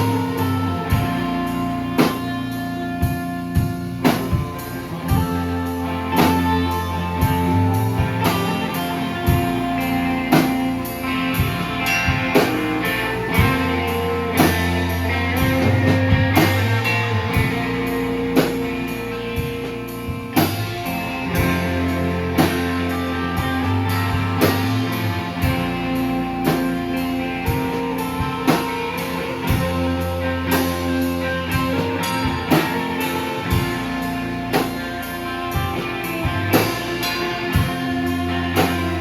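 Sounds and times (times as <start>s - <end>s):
bass notes: 0.0s - 39.0s
drum kit hits: 0.0s - 39.0s
guitar: 0.0s - 39.0s.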